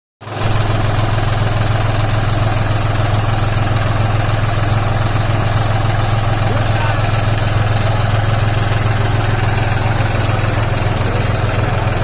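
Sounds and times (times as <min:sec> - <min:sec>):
tractor diesel engine idling: 0:00.2 - 0:12.0.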